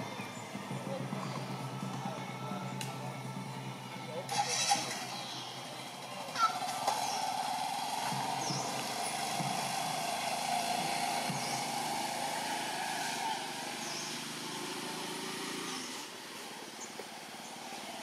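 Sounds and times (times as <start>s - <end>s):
motor-like drone: 0.0s - 16.5s.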